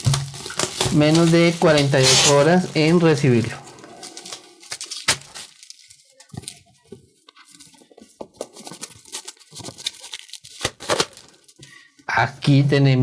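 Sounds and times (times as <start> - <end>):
packaging rustling and tearing: 0.0 - 11.6.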